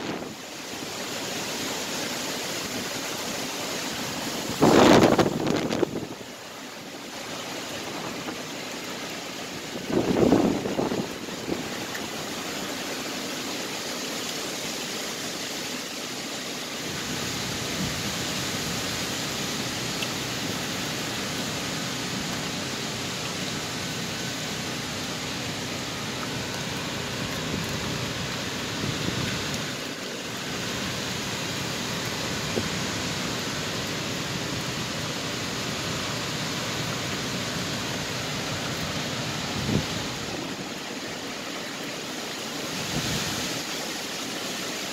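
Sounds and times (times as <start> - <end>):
hurricane winds through trees: 0.0 - 44.9.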